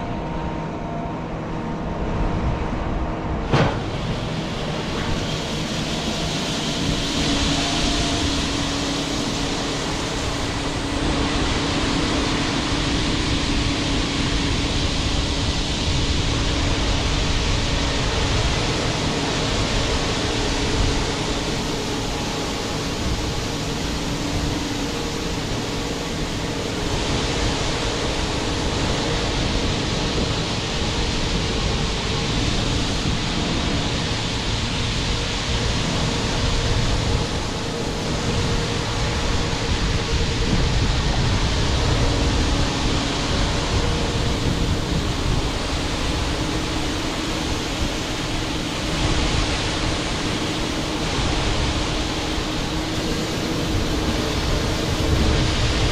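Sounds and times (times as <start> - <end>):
machinery engines humming: 0.0 - 55.9
wind buffeting the microphone: 0.0 - 55.9.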